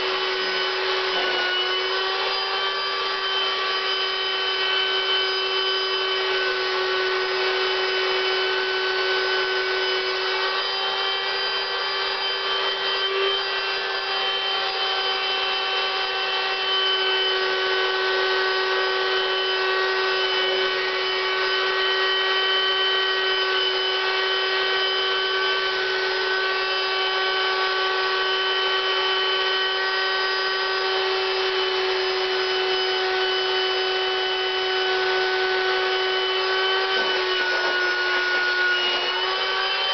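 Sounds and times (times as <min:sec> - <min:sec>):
electric air pump whining: 0:00.0 - 0:39.9.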